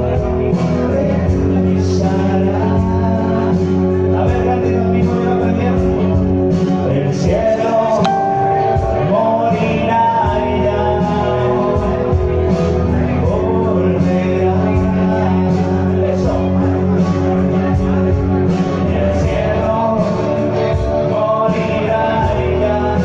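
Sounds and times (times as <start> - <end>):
electric guitar: 0.0 - 23.0
man singing: 0.0 - 23.0.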